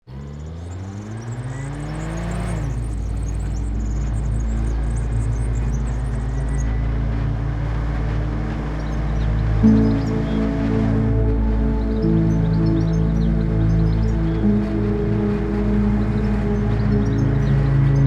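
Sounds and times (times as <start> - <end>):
car engine accelerating: 0.0 - 18.0
low road rumble: 0.0 - 18.0.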